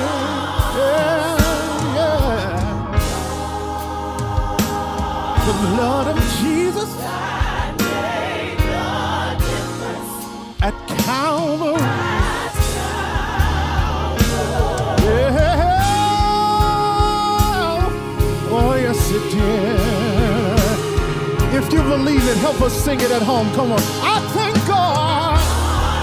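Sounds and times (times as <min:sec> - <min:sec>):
gospel singers singing: 0:00.0 - 0:26.0
keyboard accompaniment: 0:00.0 - 0:26.0.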